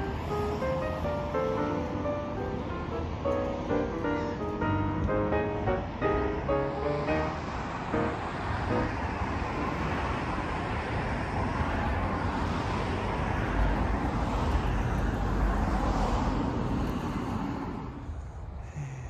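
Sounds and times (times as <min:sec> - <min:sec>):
outdoor rushing noise: 0:00.0 - 0:18.7.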